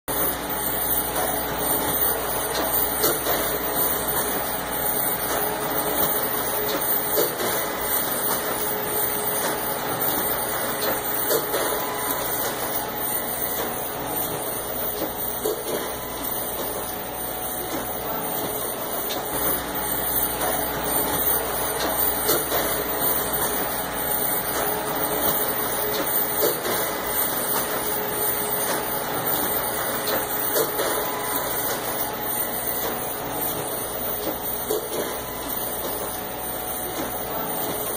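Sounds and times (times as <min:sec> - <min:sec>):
machine whirring: 0:00.1 - 0:37.9.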